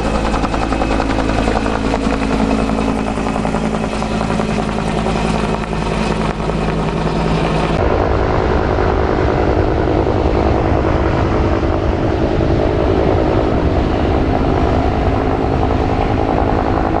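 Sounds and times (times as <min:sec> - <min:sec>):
helicopter flying overhead: 0:00.0 - 0:17.0.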